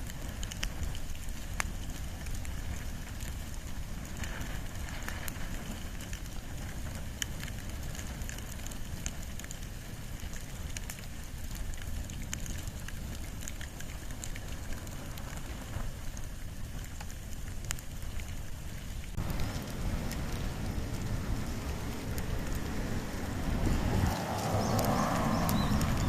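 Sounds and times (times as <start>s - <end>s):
bonfire crackling and popping: 0.0s - 26.0s
low rumble of fire: 0.0s - 26.0s.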